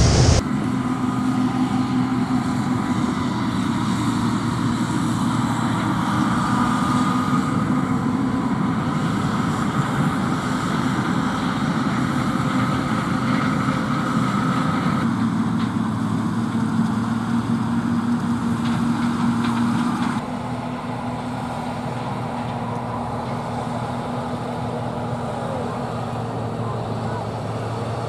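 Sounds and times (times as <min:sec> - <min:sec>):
combine harvester engine droning: 0:00.0 - 0:28.0.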